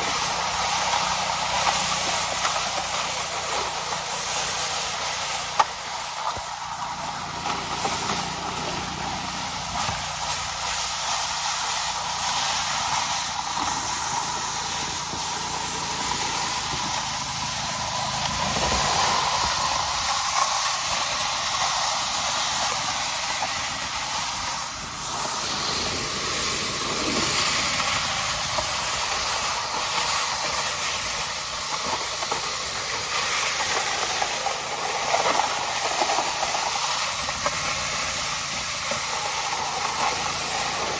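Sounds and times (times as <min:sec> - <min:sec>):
tyre and road noise: 0:00.0 - 0:40.9.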